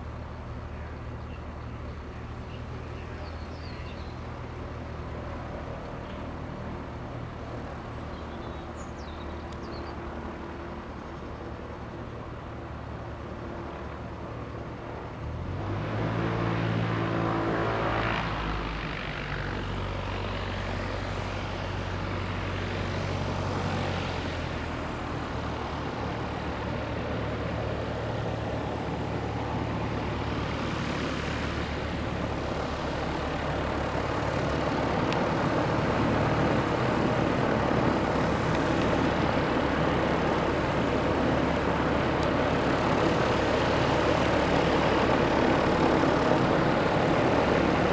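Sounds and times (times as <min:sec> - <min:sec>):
light aircraft engine droning: 0:00.0 - 0:47.9.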